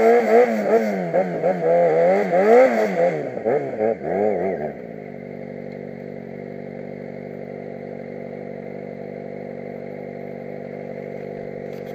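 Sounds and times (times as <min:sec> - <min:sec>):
motorcycle engine idling: 0:00.1 - 0:11.9.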